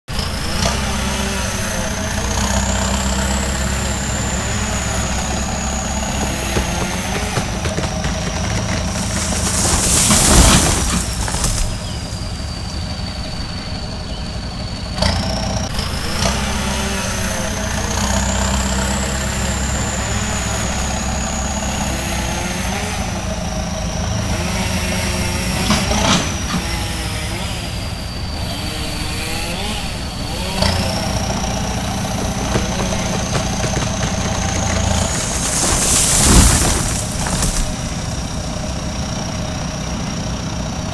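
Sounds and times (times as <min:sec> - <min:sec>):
engine running steadily: 0:00.1 - 0:40.9.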